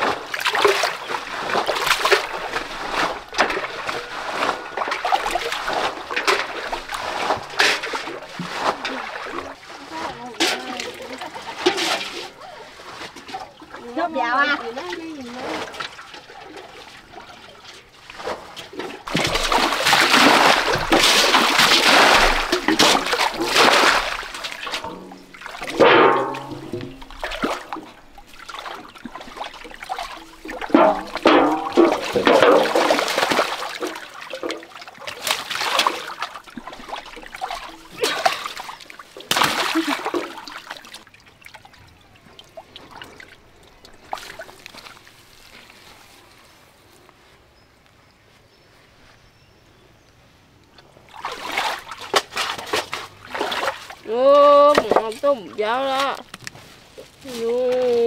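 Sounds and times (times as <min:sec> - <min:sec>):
muddy water splashing: 0:00.0 - 0:47.2, 0:50.6 - 0:58.0.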